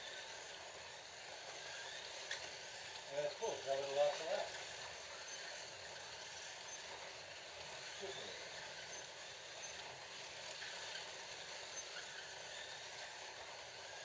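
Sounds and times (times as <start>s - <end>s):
slot cars whirring on track: 0.0s - 14.0s.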